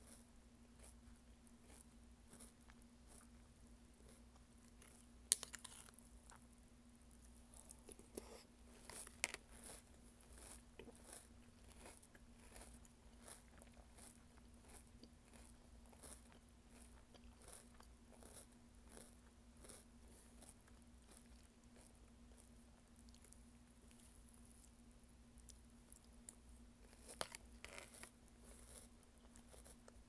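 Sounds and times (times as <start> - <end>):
person chewing crunchy cereal: 0.0 - 24.8, 25.4 - 30.0.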